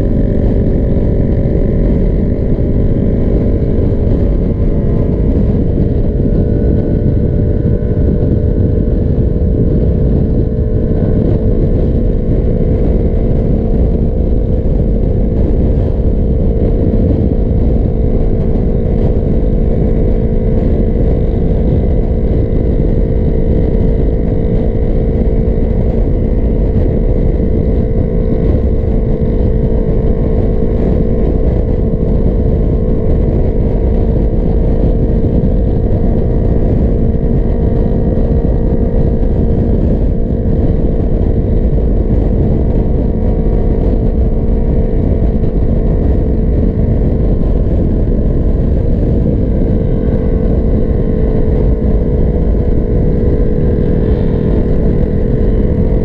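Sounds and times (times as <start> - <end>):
low wind rumble: 0.0 - 56.0
motorcycle engine cruising: 0.0 - 56.0.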